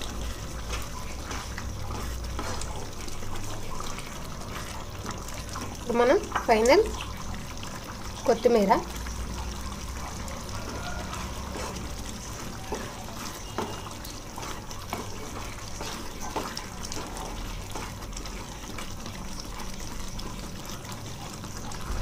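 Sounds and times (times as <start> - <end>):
wooden spatula stirring: 0.0 - 21.8
gravy simmering with pops: 0.0 - 22.0.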